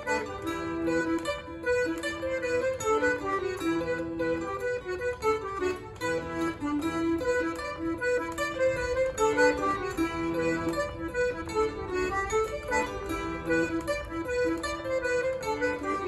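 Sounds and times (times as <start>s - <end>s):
plucked harp notes: 0.0s - 16.0s.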